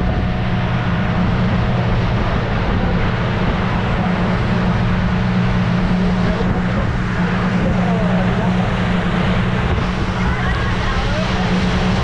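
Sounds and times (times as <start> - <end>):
boat engine humming: 0.0 - 12.0
wind and water rushing: 0.0 - 12.0.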